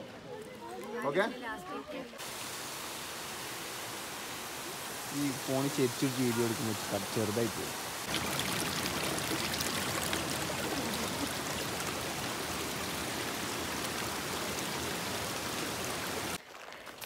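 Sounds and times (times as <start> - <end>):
stream flowing over rocks: 2.2 - 17.0.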